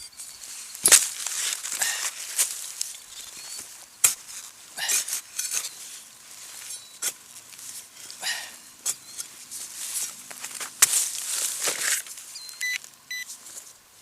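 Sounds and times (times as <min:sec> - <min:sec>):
digging tool scraping dirt: 0:00.0 - 0:08.2, 0:08.8 - 0:12.2.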